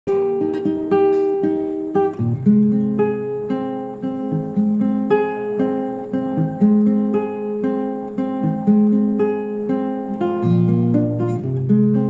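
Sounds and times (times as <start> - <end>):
acoustic guitar playing: 0.1 - 12.0.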